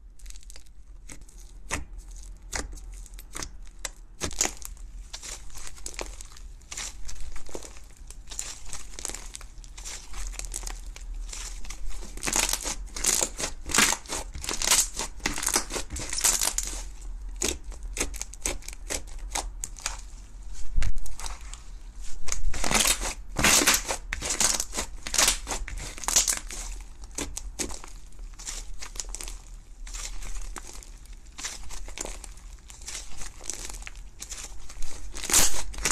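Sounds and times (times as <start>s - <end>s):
slime crackling and popping: 0.0s - 20.1s, 20.8s - 35.9s.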